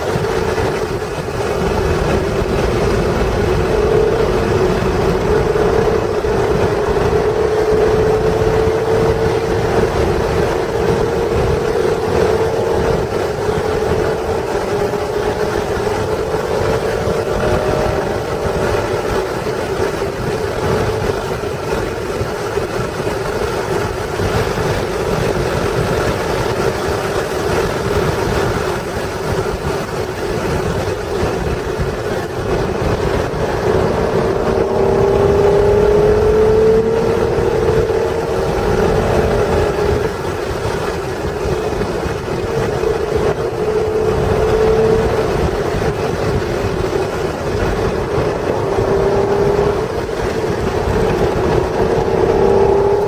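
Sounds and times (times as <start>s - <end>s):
car engine accelerating: 0.0s - 53.0s
road noise: 0.0s - 53.0s
wind noise: 0.0s - 53.0s.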